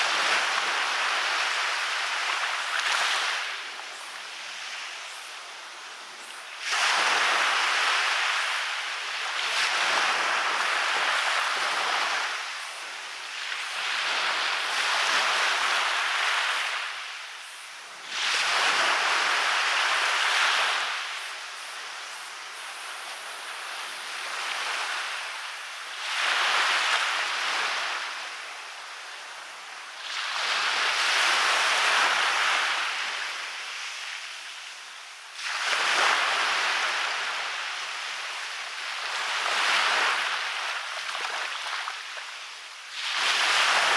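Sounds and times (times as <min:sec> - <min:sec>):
waves breaking on a beach: 0:00.0 - 0:43.9.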